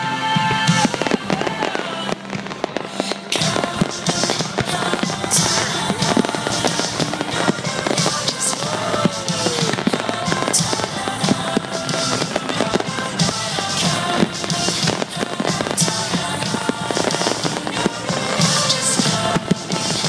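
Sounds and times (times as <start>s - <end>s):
music playing: 0.0s - 20.0s
fireworks bangs and crackles: 0.2s - 20.0s.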